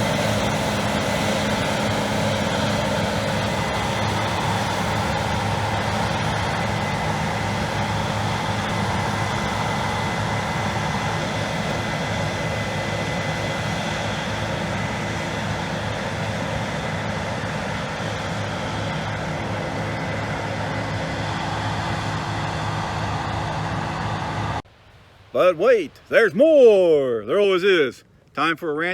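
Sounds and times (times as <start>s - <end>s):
machinery engine drone: 0.0s - 24.6s.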